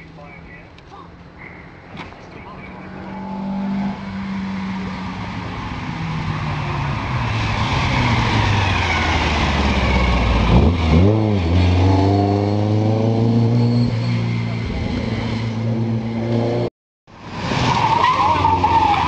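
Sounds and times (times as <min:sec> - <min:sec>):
rally car engine revving: 0:02.0 - 0:19.0.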